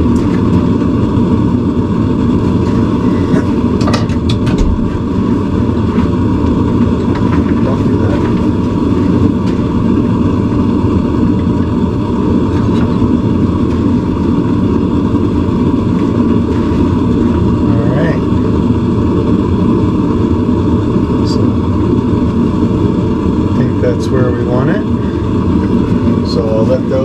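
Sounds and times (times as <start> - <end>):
forge rushing roar: 0.0 - 27.0.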